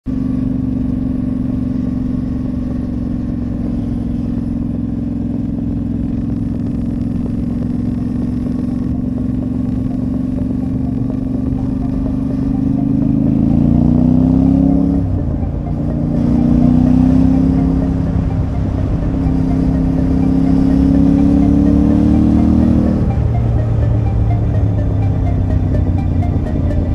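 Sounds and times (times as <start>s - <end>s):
motorcycle engine accelerating: 0.1s - 26.9s.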